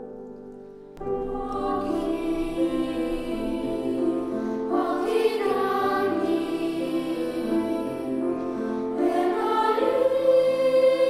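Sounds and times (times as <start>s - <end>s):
children's choir singing: 1.0s - 11.0s.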